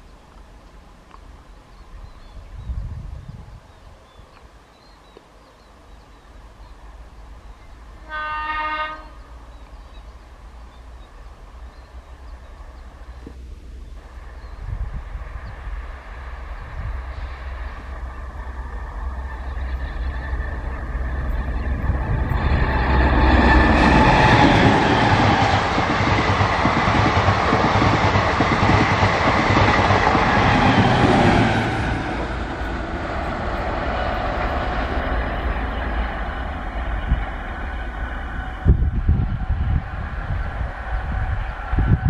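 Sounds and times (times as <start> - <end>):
diesel train passing: 5.7 - 42.0.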